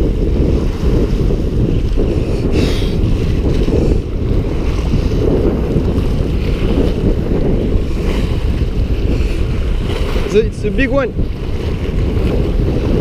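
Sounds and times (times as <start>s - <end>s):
strong wind buffeting microphone: 0.0s - 13.0s
surf washing against rocks: 0.0s - 13.0s.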